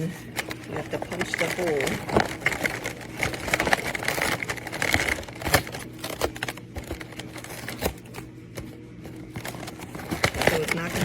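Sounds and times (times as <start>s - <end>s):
cardboard clicks and crinkles: 0.3s - 11.0s.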